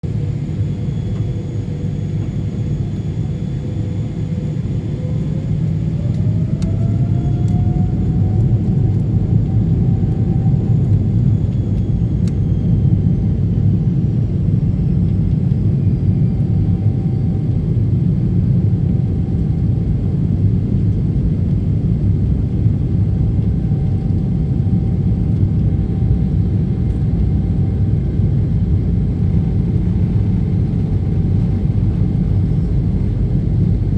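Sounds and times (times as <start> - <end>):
jet engine whine rising: 0.0 - 33.9
jet engines rumbling: 0.0 - 33.9.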